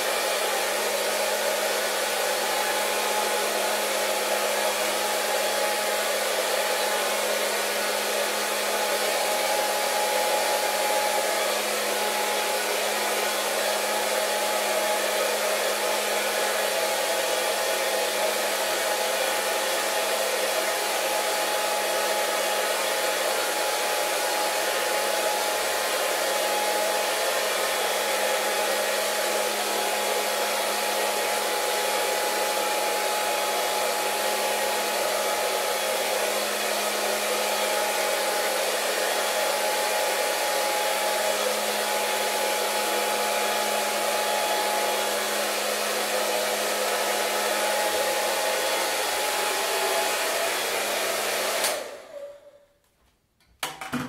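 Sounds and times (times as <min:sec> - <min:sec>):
hair dryer running: 0:00.0 - 0:52.6.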